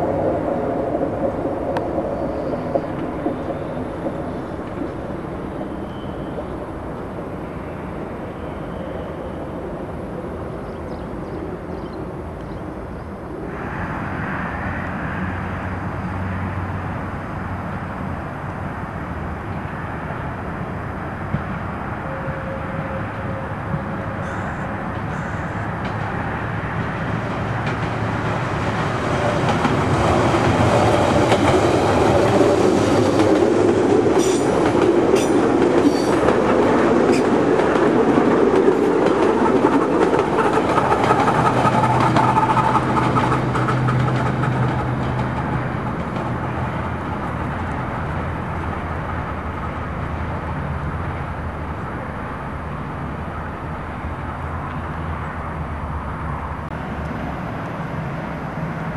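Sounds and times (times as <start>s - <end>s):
train wheels rumbling on rails: 0.0s - 11.9s, 13.2s - 58.9s.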